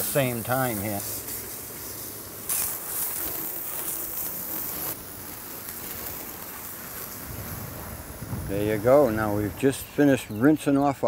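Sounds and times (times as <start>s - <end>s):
hose nozzle spraying water: 0.0s - 9.7s.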